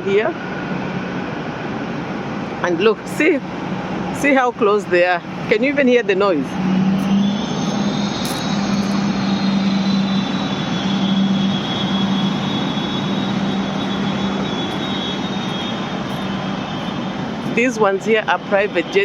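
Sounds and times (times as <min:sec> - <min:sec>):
jet engine noise: 0:00.0 - 0:19.0.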